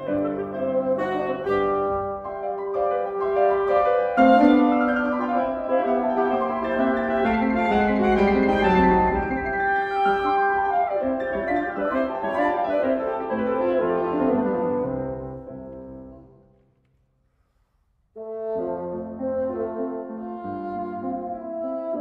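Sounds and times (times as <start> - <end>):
clarinet bassoon and piano trio: 0.0 - 16.5, 18.2 - 22.0.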